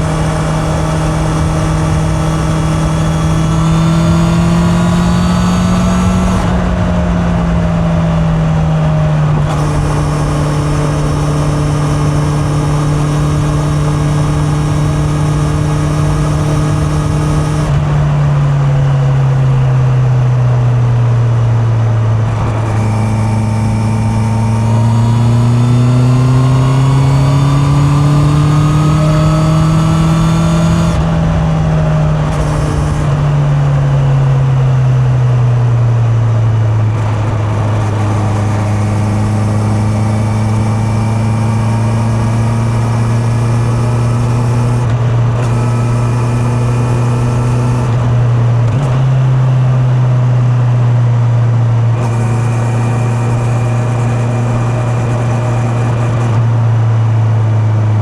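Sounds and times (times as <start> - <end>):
motorcycle engine: 0.0 - 58.0
wind and road rush: 0.0 - 58.0.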